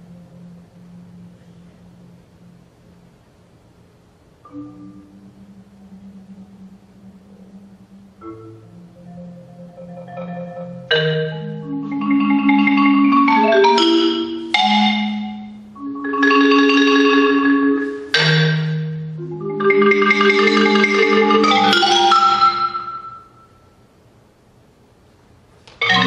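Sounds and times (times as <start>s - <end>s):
marimba chords: 0.0s - 3.3s, 4.4s - 23.7s, 25.7s - 26.0s.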